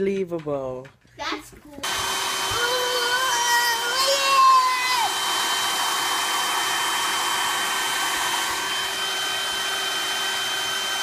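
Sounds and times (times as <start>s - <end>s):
electric motor blower whooshing: 1.8s - 11.0s.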